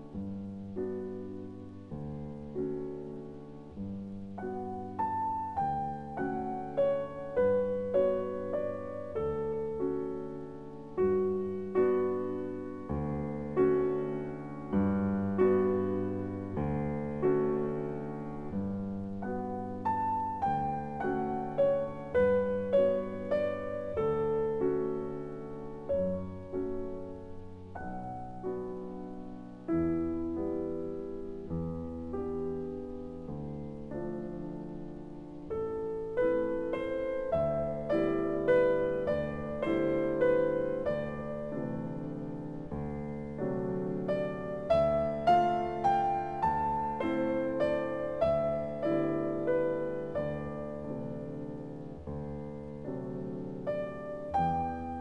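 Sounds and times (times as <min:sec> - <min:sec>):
slow piano piece: 0:00.0 - 0:55.0.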